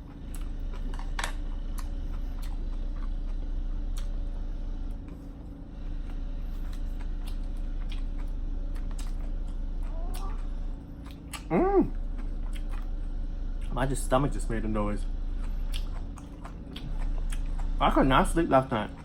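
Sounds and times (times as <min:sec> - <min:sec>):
building work rumble: 0:00.0 - 0:19.0.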